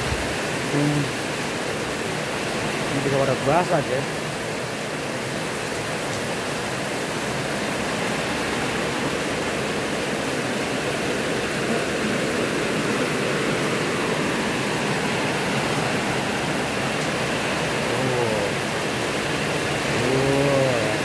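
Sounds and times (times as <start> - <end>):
heavy rain in strong wind: 0.0 - 21.0.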